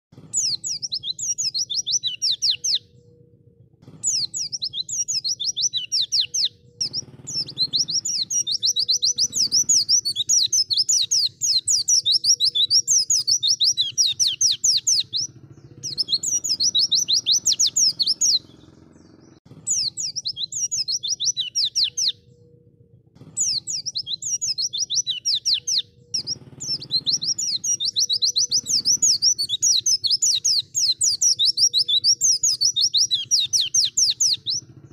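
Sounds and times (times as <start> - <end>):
small bird twittering song: 0.1 - 34.9.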